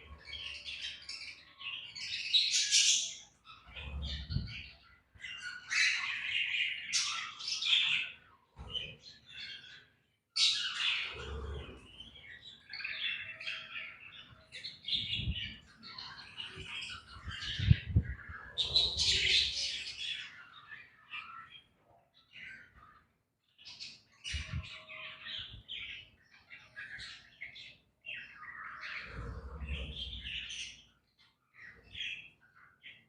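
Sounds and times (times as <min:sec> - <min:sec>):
budgerigars chirping and squawking: 0:00.0 - 0:33.0.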